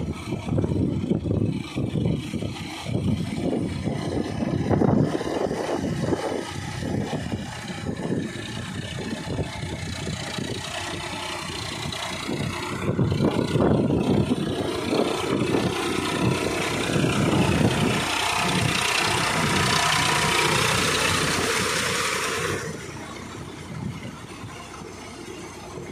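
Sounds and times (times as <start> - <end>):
tractor diesel engine under load: 0.0 - 25.9
rushing hiss of churned mud: 2.3 - 23.3.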